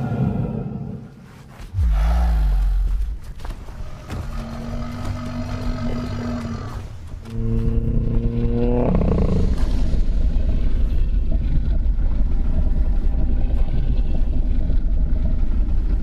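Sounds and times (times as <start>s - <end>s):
deep rumbling growl: 0.0s - 16.0s.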